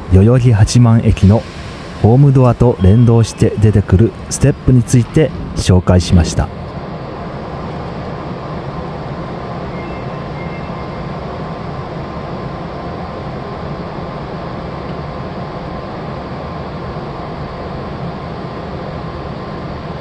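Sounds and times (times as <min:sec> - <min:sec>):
train car interior hum: 0:00.0 - 0:20.0.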